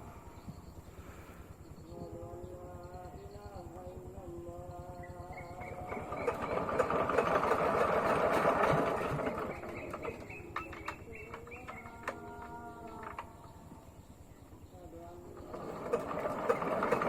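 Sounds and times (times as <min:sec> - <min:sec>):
small engine clattering: 0:00.0 - 0:17.0.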